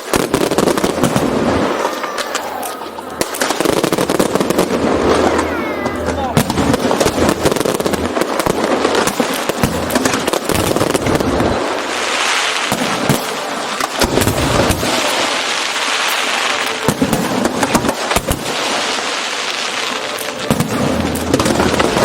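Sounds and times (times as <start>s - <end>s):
firework bangs: 0.0s - 22.0s
firework crackling: 0.0s - 22.0s.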